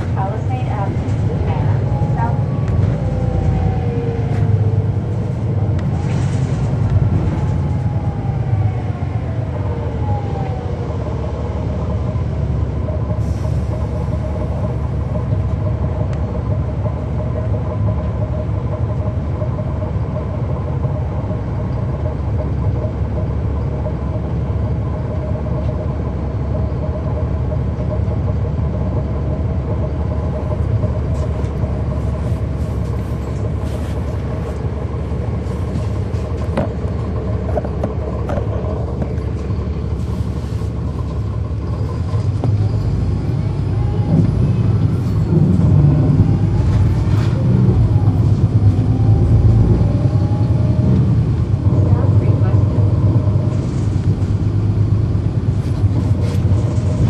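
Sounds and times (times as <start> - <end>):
bus diesel engine: 0.0 - 57.0
low road rumble: 0.0 - 57.0.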